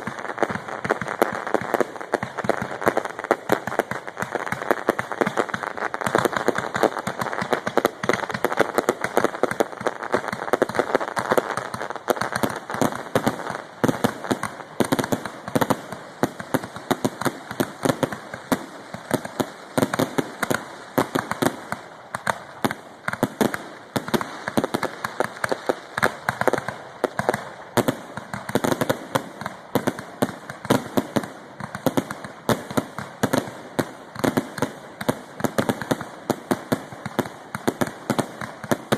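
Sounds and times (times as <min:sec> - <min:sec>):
fireworks crackling: 0:00.0 - 0:38.9
fireworks exploding: 0:00.0 - 0:38.9.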